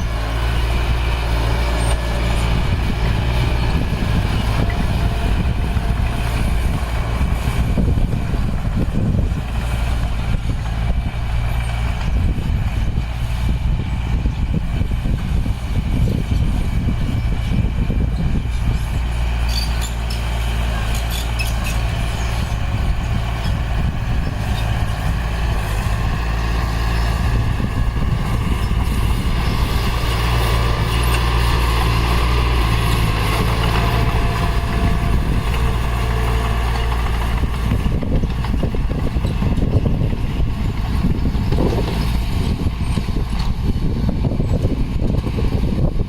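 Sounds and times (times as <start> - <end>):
heavy diesel machinery running: 0.0 - 46.0.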